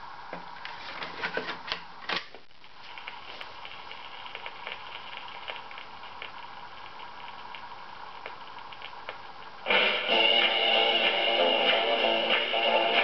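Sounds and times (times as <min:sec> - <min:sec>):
record player whir with ticking: 0:00.0 - 0:13.0.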